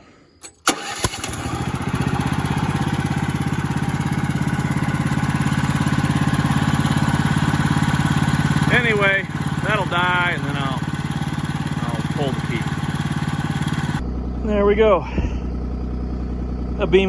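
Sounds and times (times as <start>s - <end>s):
gasoline engine running: 0.6s - 17.0s.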